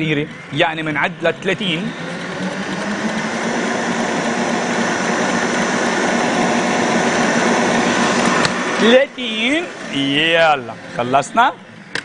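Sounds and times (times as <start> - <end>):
stand mixer motor hum: 0.0 - 12.0.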